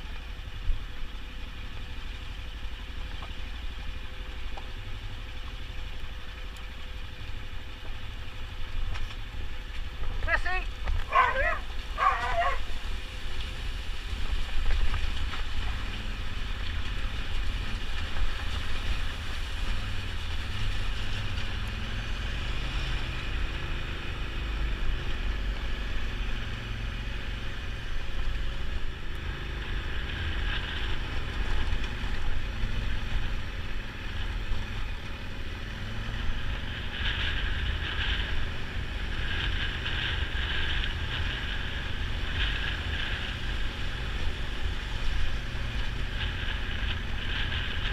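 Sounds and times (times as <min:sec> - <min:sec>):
motorcycle engine running: 0:00.0 - 0:47.9
wind buffeting microphone: 0:09.4 - 0:47.9.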